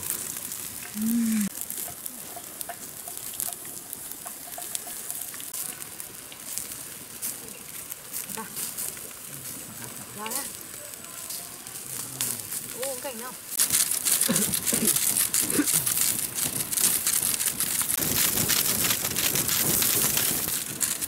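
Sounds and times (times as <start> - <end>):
fish sizzling over fire: 0.0 - 21.0.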